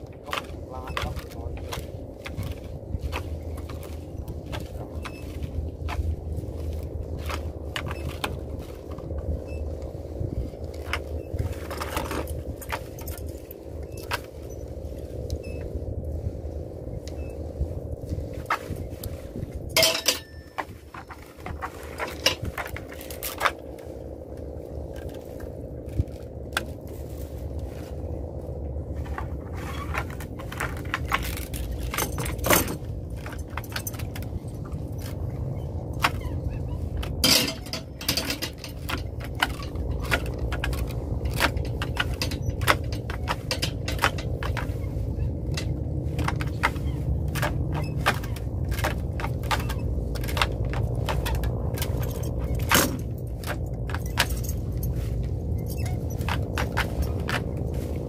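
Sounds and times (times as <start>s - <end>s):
low rumble: 0.0s - 58.0s.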